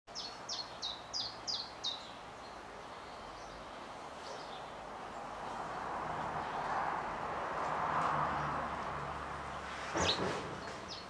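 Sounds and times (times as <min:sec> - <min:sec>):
outdoor background noise: 0:00.1 - 0:11.0.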